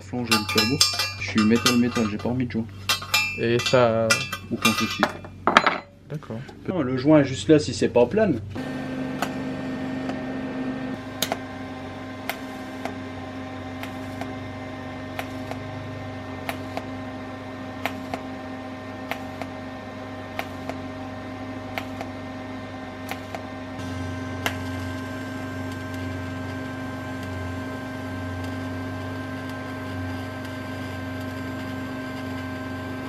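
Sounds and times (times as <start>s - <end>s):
welding arc humming: 0.0s - 5.5s, 8.4s - 33.0s.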